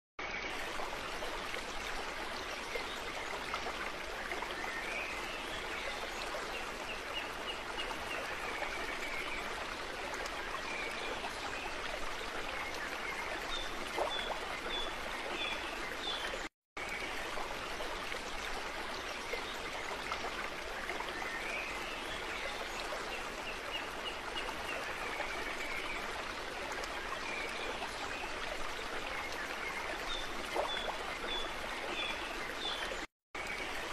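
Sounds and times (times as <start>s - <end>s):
running water: 0.2s - 33.9s.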